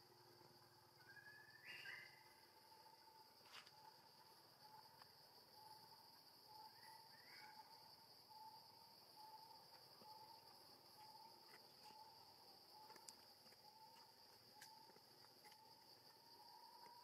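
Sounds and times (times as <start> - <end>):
faint insect chirps: 0.0 - 17.0
insect chorus drone: 0.0 - 17.0.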